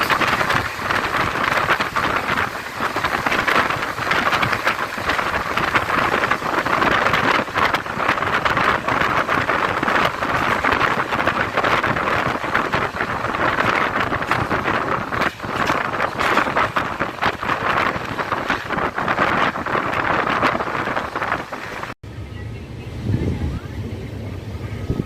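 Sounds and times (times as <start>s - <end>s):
train wheel and rail noise: 0.0s - 25.0s
wind buffeting microphone: 0.0s - 25.0s.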